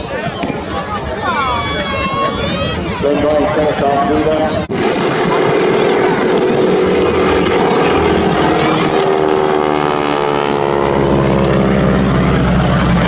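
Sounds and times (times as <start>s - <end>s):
propeller aircraft flying past: 2.4s - 13.0s.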